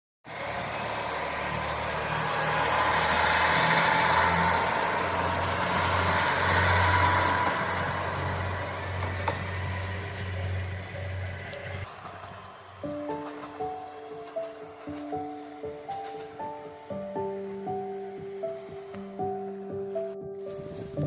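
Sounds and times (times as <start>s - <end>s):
vehicle passing: 0.3s - 21.0s.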